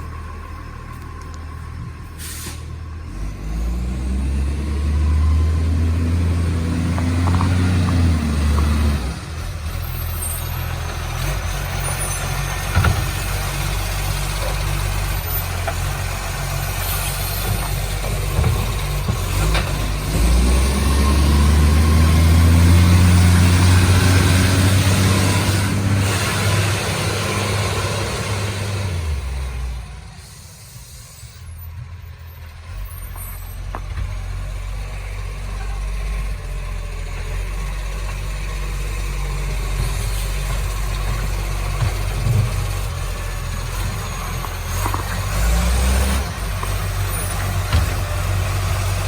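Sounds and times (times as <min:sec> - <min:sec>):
diesel truck engine revving: 0:00.0 - 0:49.0.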